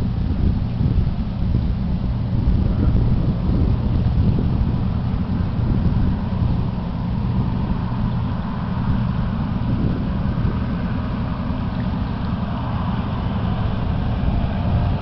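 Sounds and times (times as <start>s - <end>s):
ship engines rumbling: 0.0s - 15.0s
wind buffeting microphone: 0.0s - 15.0s.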